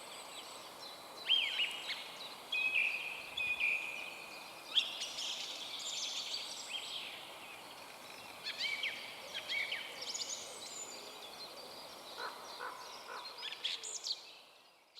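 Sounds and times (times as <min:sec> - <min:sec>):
faint background hiss: 0:00.0 - 0:14.9.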